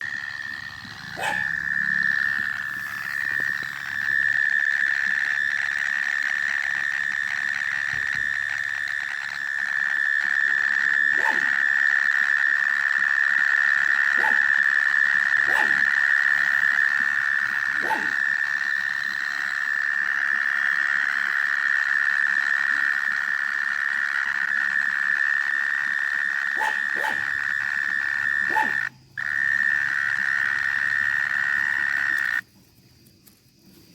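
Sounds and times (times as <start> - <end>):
high-pitched animal trill: 0.0 - 32.4.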